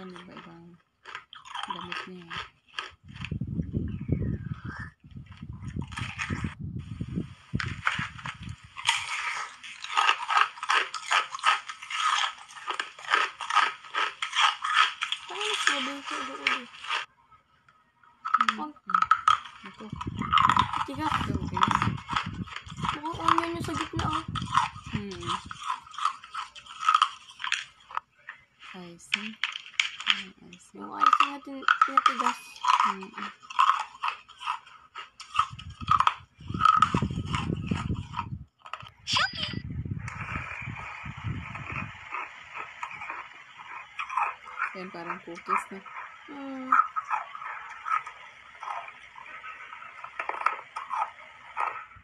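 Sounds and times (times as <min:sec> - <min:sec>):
ice being bitten and crunched: 0:00.0 - 0:03.4, 0:05.4 - 0:06.6, 0:07.5 - 0:17.1, 0:18.2 - 0:38.9, 0:40.1 - 0:52.0
deep chewing rumble: 0:00.0 - 0:39.0, 0:39.6 - 0:52.0.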